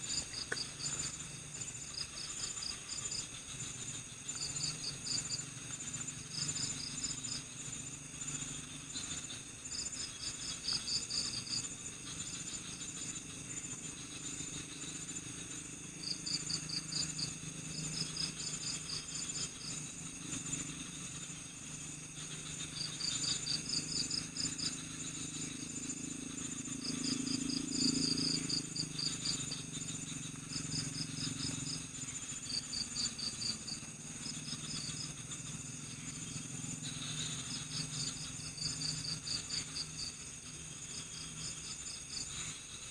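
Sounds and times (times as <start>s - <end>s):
crickets chirping: 0.0s - 42.9s
high-pitched insect drone: 0.0s - 42.9s.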